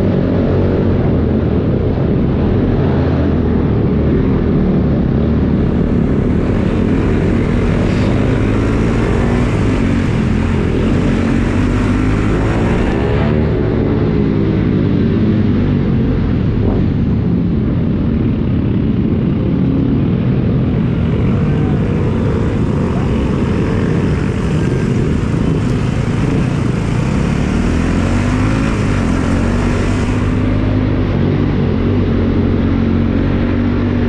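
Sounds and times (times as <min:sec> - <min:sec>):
road and wind noise: 0:00.0 - 0:34.0
motorcycle engine running: 0:03.4 - 0:34.0.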